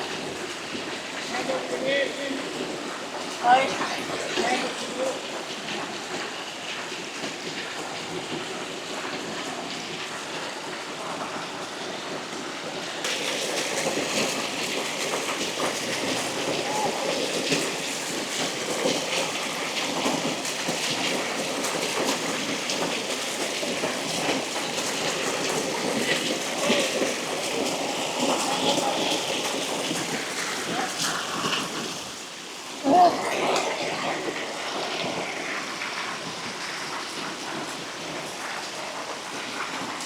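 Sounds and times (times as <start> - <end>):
small waterfall splashing: 0.0 - 40.0.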